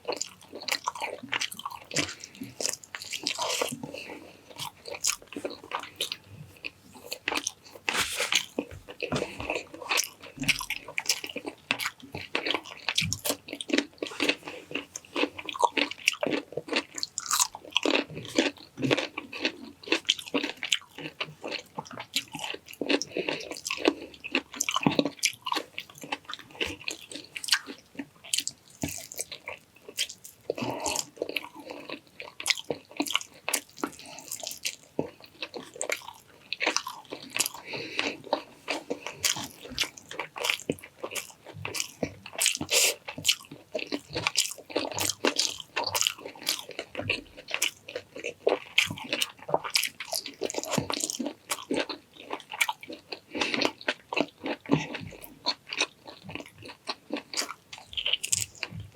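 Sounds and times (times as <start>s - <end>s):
wet chewing and lip smacking: 0.0s - 58.9s
crunchy bites of vegetables: 4.6s - 58.9s.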